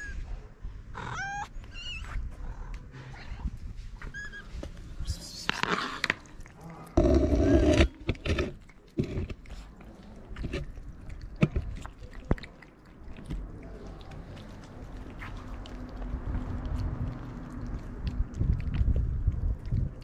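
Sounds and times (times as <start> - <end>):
cats chewing and licking: 3.4 - 20.0.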